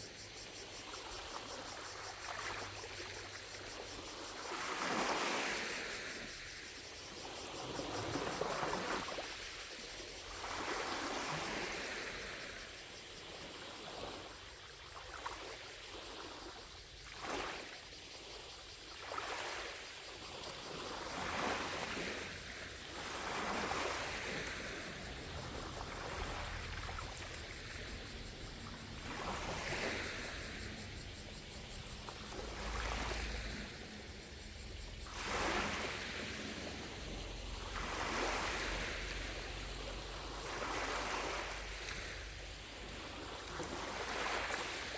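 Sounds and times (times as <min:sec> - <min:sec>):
gentle waves lapping on shore: 0:00.0 - 0:44.9.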